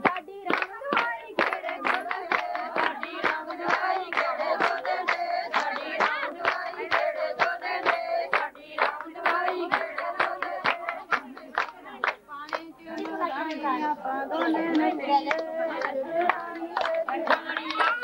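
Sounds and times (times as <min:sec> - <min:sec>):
hand clapping: 0:00.0 - 0:13.7, 0:14.4 - 0:18.0
women singing together: 0:00.0 - 0:18.0.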